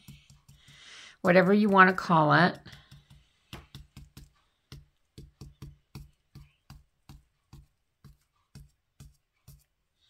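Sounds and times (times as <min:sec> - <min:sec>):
paintbrush tapping: 0:00.0 - 0:09.8.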